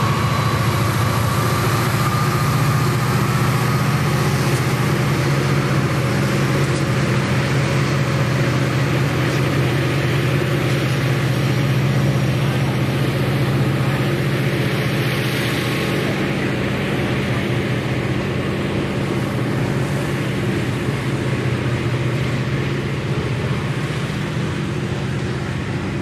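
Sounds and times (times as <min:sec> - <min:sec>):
freight cars rolling on rails: 0:00.0 - 0:26.0.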